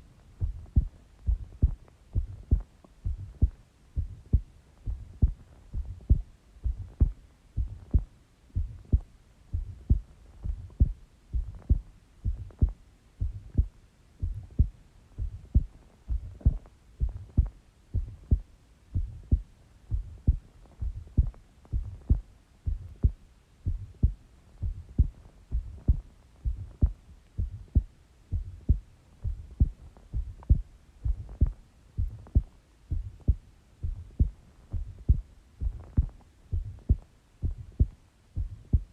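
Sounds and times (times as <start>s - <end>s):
heartbeat through stethoscope: 0.3s - 38.9s.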